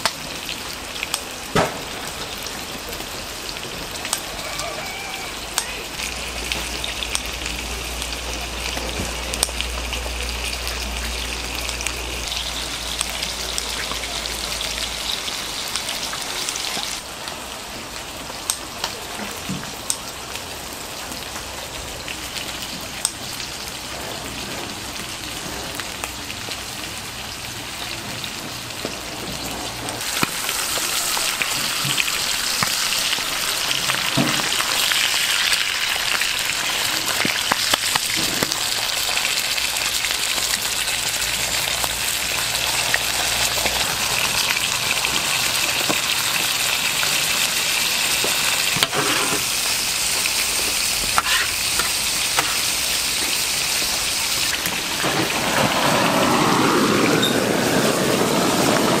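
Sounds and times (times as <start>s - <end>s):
meat sizzling on a grill: 0.0s - 59.0s.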